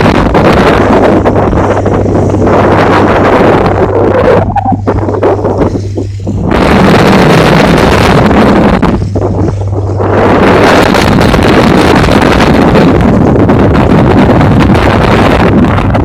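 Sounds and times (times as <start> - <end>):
boat engine low hum: 0.0 - 16.0
wind buffeting microphone: 0.0 - 16.0.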